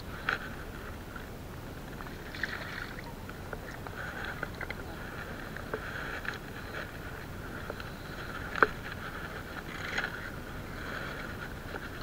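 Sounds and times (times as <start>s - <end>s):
sea water washing: 0.1s - 12.0s.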